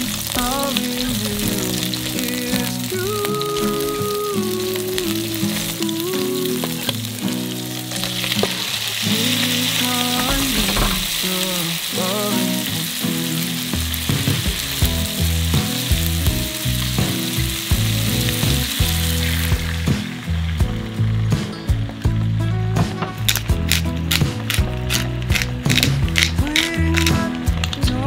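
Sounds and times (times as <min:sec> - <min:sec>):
background music with bass: 0:00.0 - 0:28.0
bacon sizzling in a frying pan: 0:00.0 - 0:28.0.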